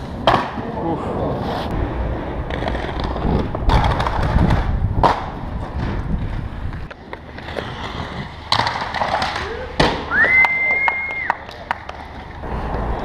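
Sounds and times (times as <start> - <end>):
inline skate wheels rolling on stone: 0.0 - 13.0
skates clacking on stone: 2.4 - 13.0.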